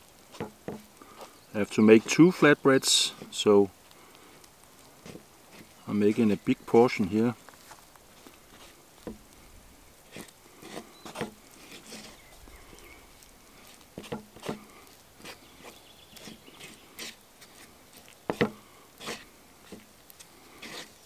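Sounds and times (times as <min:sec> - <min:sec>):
wooden spoon scraping wooden bowl: 0:00.3 - 0:03.6, 0:04.4 - 0:07.2, 0:08.2 - 0:09.3, 0:10.0 - 0:21.0.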